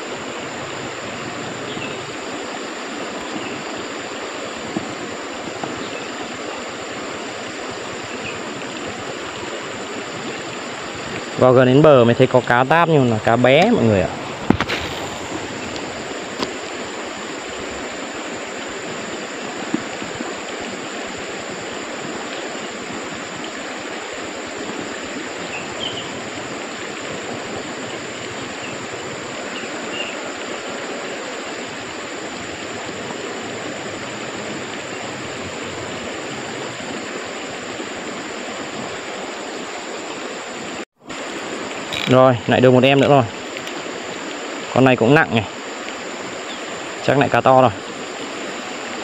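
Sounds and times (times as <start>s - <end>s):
stream water rushing: 0.0s - 49.0s.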